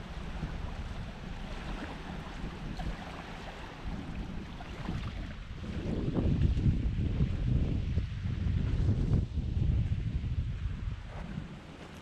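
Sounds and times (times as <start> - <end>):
small waves lapping: 0.0 - 8.9, 9.9 - 12.0
wind buffeting microphone: 0.0 - 12.0.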